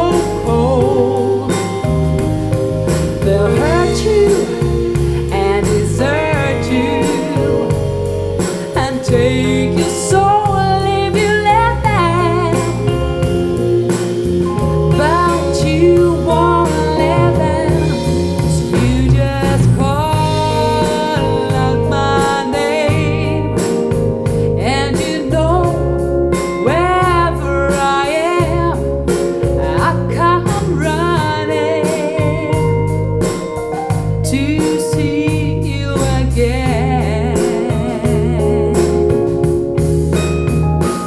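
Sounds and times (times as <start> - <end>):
song through loudspeaker: 0.0 - 13.4, 14.6 - 33.6, 34.2 - 40.8
pulsing bass line: 0.0 - 41.0.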